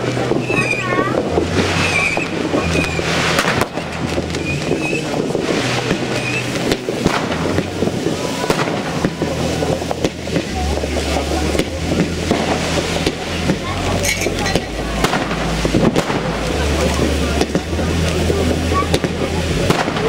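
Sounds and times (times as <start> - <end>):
firework whistling: 0.0 - 20.0
fireworks crackling: 0.0 - 20.0
rockets launching: 0.0 - 20.0
sharp firework pops: 0.0 - 20.0.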